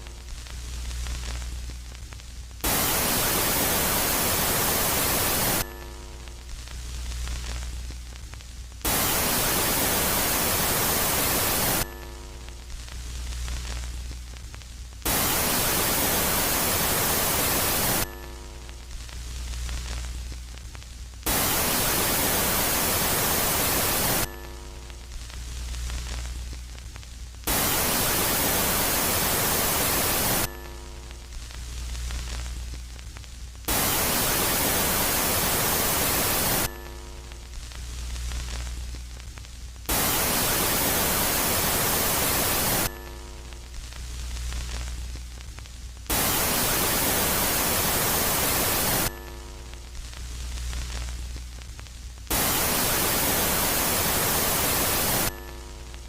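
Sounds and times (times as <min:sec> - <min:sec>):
loud static-like hiss: 0:00.0 - 0:56.0.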